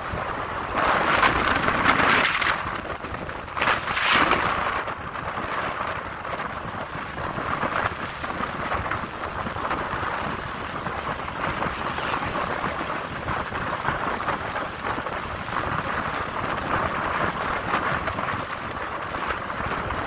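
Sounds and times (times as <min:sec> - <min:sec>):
road and engine noise: 0:00.0 - 0:20.0
wind buffeting microphone: 0:00.0 - 0:20.0.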